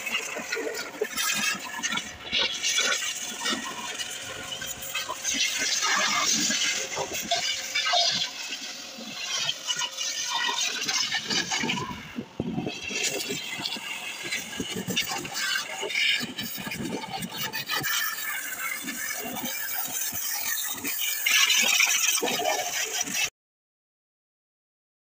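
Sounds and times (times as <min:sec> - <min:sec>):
pressure-washer jet splattering: 0:00.0 - 0:23.3.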